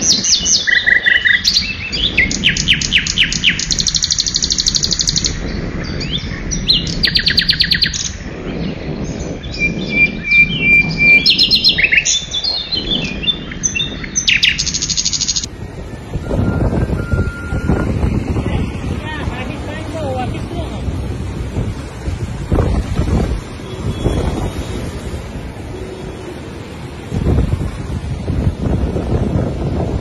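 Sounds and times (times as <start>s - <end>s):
songbirds singing and chirping: 0.0s - 28.0s.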